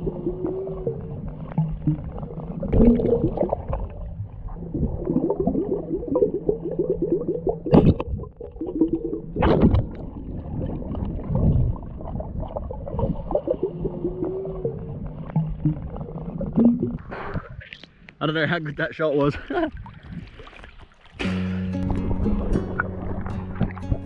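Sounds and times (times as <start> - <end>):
water gurgling underwater: 0.0 - 17.8, 21.8 - 24.0.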